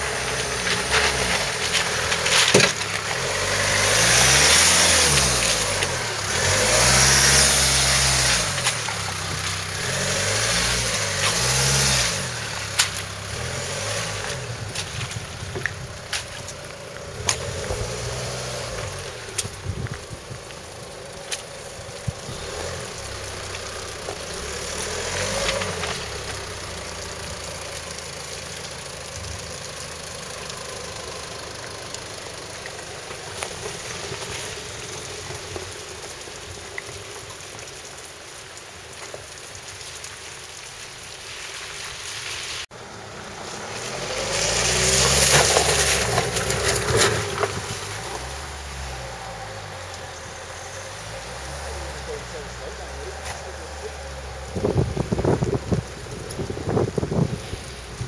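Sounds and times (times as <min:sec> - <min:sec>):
diesel engine running at low revs: 0:00.0 - 0:38.2, 0:42.8 - 0:58.0.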